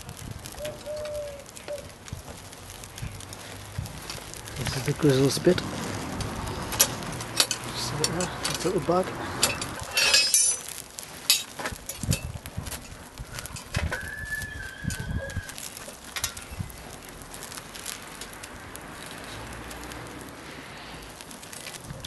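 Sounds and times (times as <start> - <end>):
charcoal fire crackling: 0.0 - 22.0.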